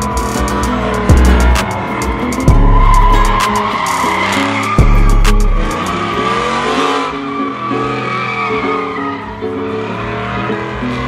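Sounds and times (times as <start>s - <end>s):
truck engine revving hard: 0.0s - 11.0s
tyres squealing on asphalt: 0.0s - 11.0s.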